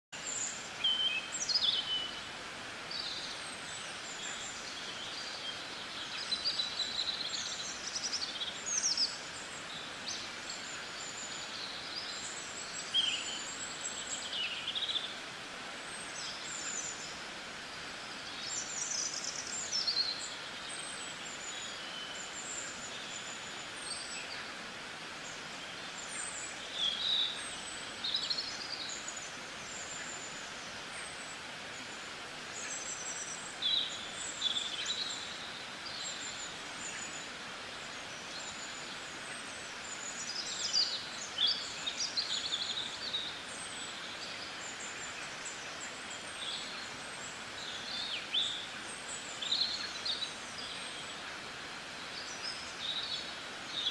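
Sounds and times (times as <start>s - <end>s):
small birds chirping: 0.1s - 53.9s
steady background hiss: 0.1s - 53.9s.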